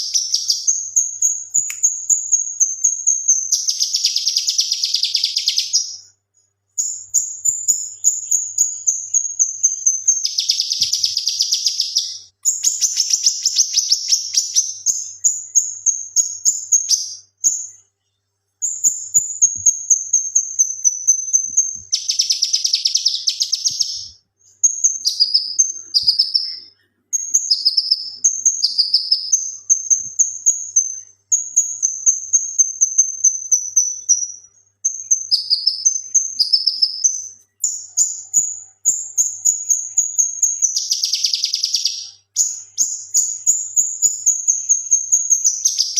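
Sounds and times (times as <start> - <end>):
bird singing high trilled phrases: 0.0 - 6.2, 6.8 - 17.8, 18.6 - 45.9.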